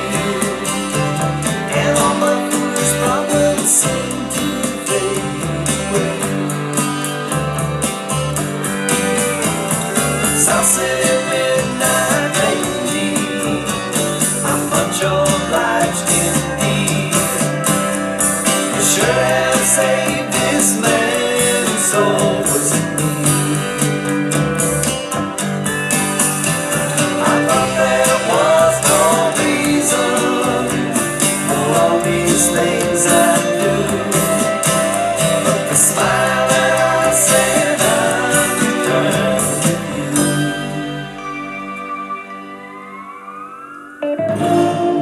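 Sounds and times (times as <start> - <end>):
country-rock song with guitar: 0.0 - 45.0.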